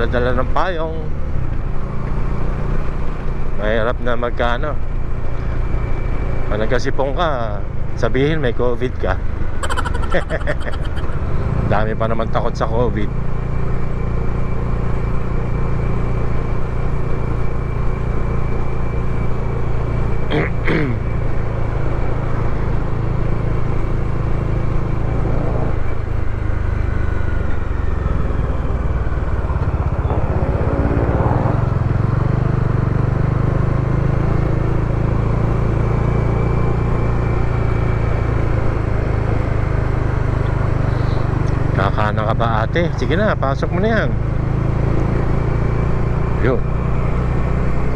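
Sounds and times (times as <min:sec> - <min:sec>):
road and wind noise: 0:00.0 - 0:47.9
motorcycle engine running: 0:09.2 - 0:47.9.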